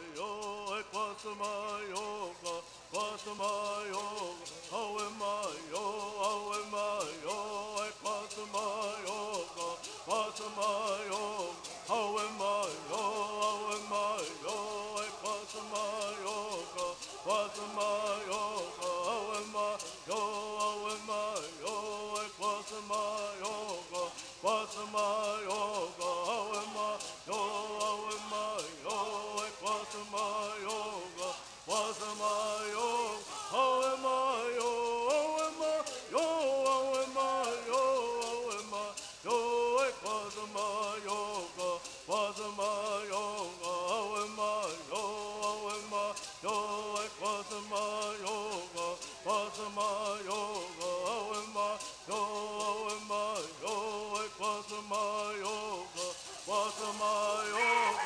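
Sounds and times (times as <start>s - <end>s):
gourd rattles shaking: 0.0s - 58.0s
men singing in unison: 0.0s - 58.0s.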